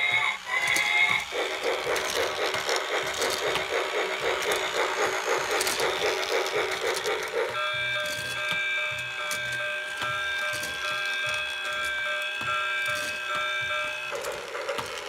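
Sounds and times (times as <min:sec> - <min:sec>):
pulsing buzzy toy sound: 0:00.0 - 0:15.0.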